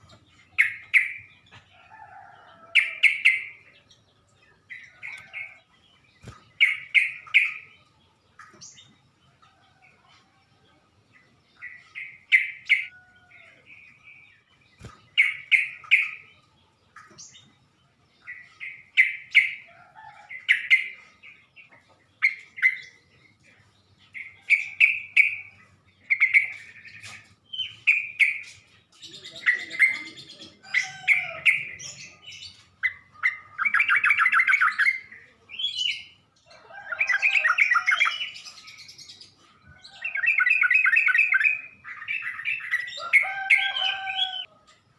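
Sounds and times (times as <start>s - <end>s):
bird chirping and chattering: 0.0s - 1.8s, 2.7s - 10.3s, 11.0s - 44.5s.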